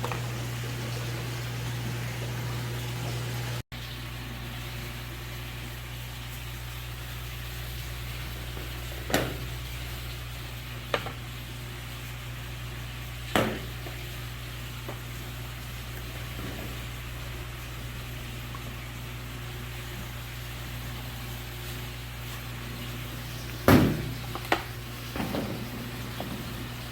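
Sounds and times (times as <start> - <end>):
machine hum with hiss: 0.0 - 26.9.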